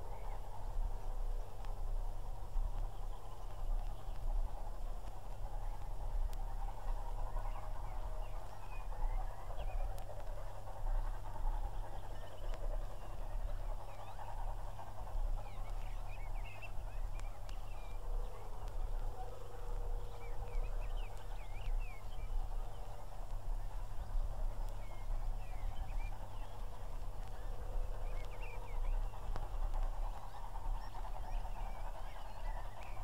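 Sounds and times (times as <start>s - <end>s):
birds chirping: 0.0s - 33.0s
steady low rumble: 0.0s - 33.0s.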